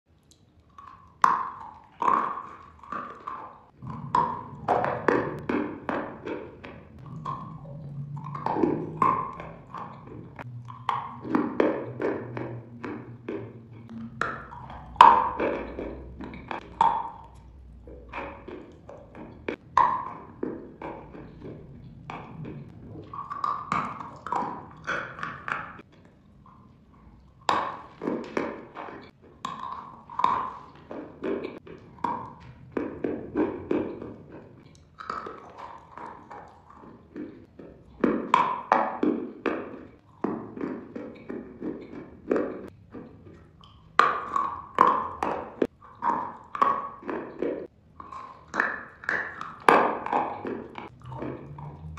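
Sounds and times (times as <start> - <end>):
chewing crunchy food: 0.1 - 51.9.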